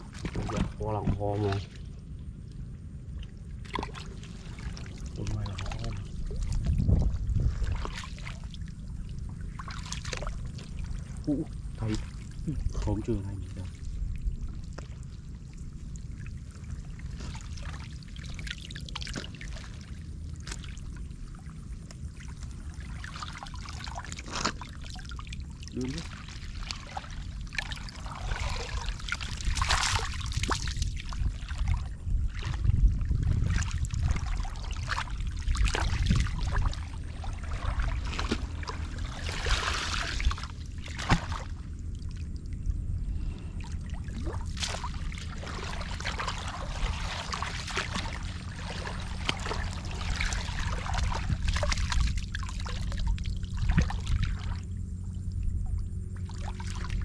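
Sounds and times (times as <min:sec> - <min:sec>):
muddy water splashing: 0:00.0 - 0:57.0
steady low rumble: 0:00.0 - 0:57.0.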